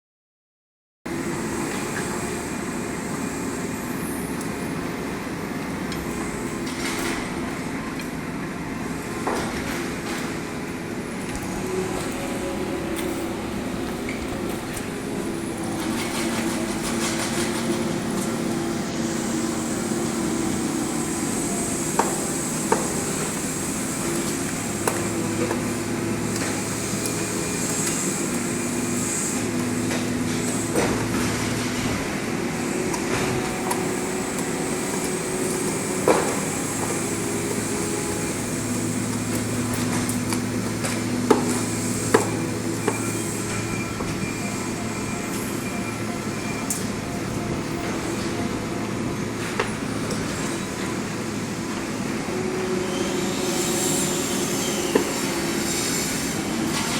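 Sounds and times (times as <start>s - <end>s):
diesel engine running: 1.1s - 56.9s.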